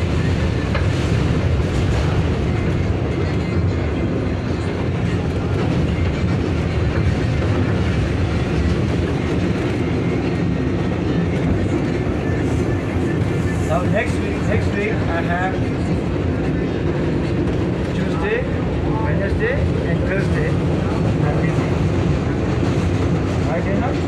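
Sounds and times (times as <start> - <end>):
subway car rumbling: 0.0 - 24.0.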